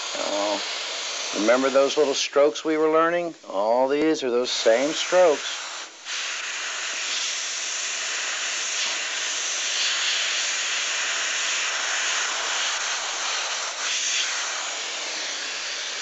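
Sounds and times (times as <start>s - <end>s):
airbrush hissing compressed air: 0.0s - 16.0s.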